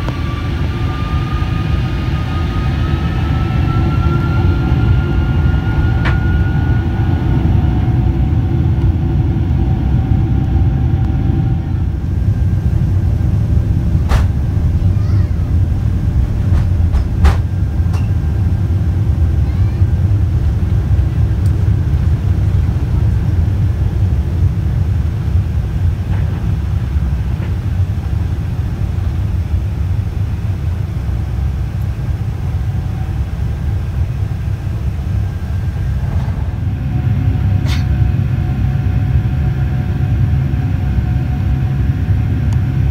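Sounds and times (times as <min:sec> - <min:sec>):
high engine whine: 0:00.0 - 0:42.9
jet engines low rumble: 0:00.0 - 0:42.9.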